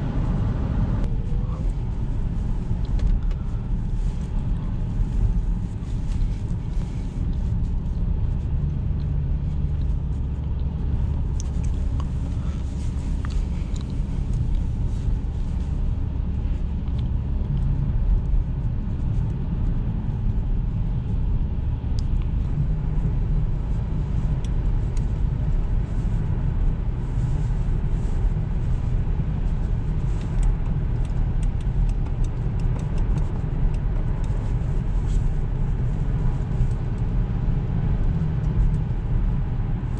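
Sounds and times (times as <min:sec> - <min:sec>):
car interior engine and road rumble: 0:00.0 - 0:39.9.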